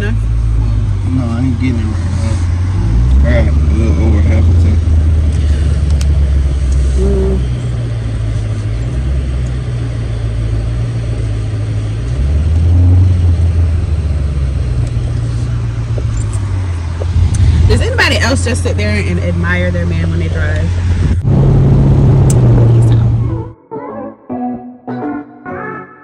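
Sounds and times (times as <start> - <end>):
car engine and road rumble: 0.0 - 23.6.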